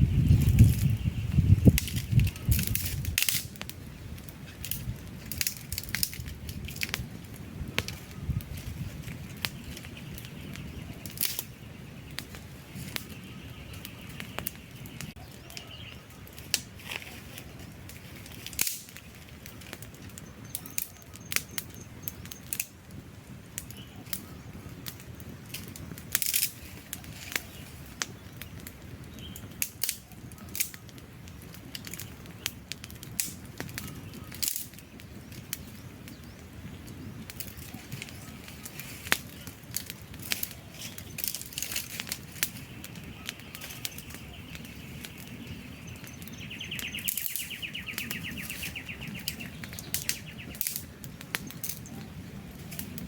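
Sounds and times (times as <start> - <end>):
campfire crackling: 0.0 - 53.0.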